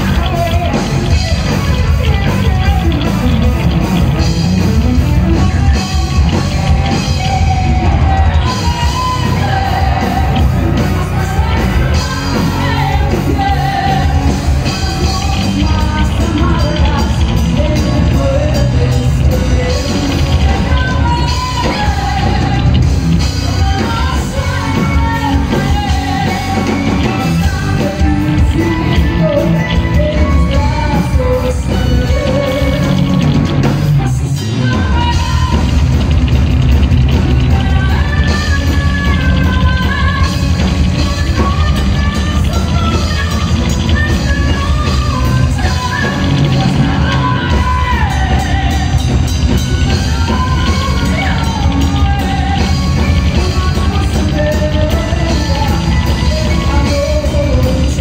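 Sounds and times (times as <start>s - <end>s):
woman singing: 0.0s - 36.3s, 37.1s - 58.0s
bass guitar: 0.0s - 58.0s
distorted electric guitar: 0.0s - 58.0s
drums: 0.0s - 58.0s.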